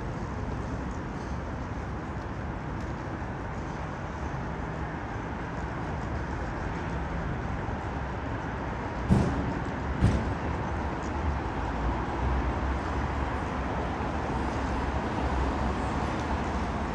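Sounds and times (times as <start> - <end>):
traffic rumble: 0.0 - 16.9.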